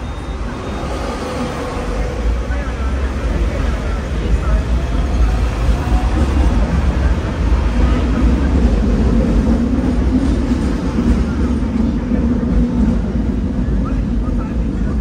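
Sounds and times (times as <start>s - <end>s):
tram rumbling on tracks: 0.0s - 15.0s.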